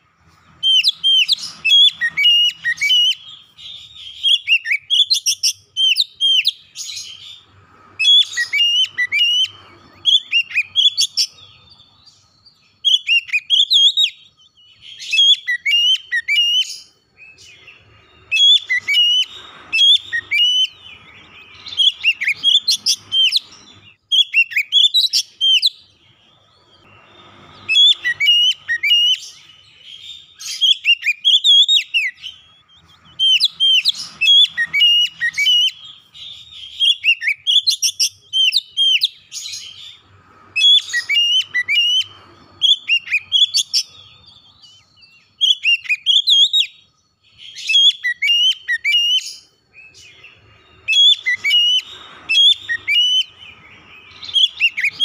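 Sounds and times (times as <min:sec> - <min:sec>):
magpie-robin whistled song: 0:00.0 - 0:55.0.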